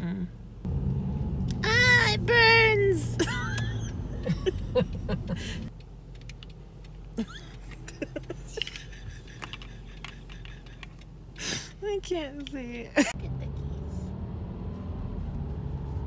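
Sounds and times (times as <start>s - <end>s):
low rumble inside car: 0.0s - 16.0s.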